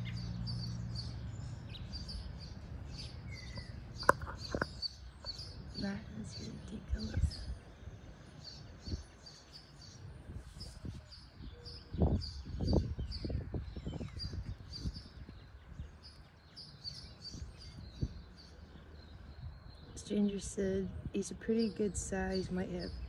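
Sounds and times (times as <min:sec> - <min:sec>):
small bird chirping: 0:00.0 - 0:20.6.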